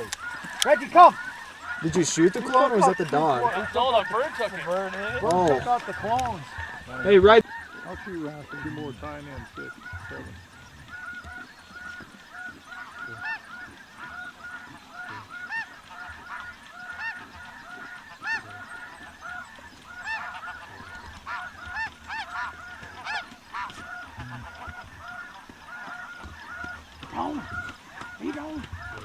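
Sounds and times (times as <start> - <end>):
geese honking in a flock: 0.0 - 29.0.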